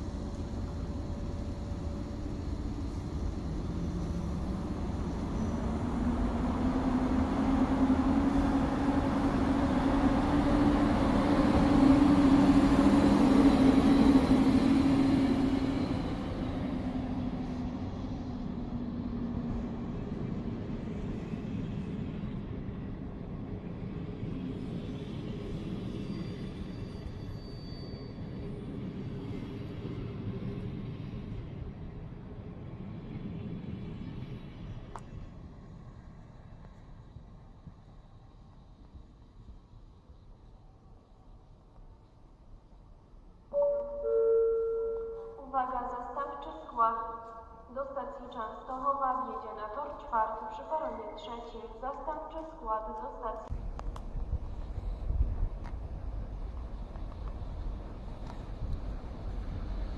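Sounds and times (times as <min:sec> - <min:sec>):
train wheels rumbling: 0:00.0 - 0:40.7, 0:50.7 - 0:59.9
electric locomotive humming: 0:00.0 - 0:59.9.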